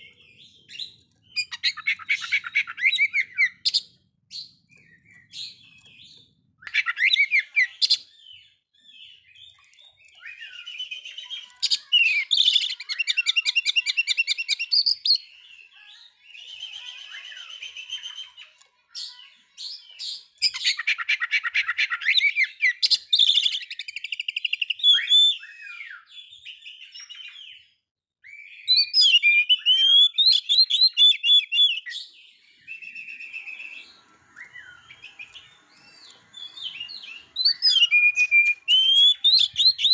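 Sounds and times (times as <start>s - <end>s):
bird singing whistled phrases: 0.0s - 18.6s, 19.7s - 39.9s.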